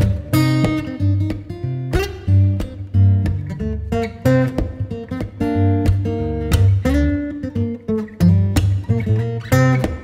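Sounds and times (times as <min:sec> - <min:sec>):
acoustic guitar playing: 0:00.0 - 0:10.0.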